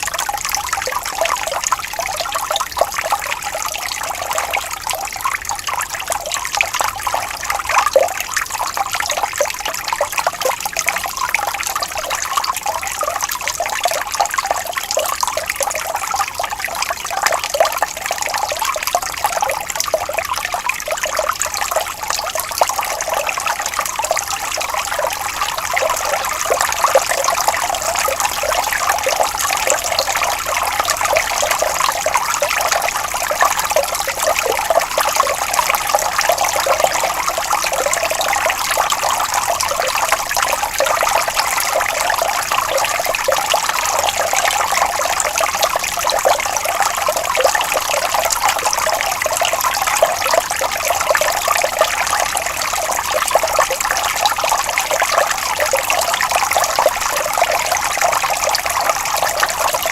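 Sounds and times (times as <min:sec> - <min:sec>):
small stream trickling: 0:00.0 - 0:59.9.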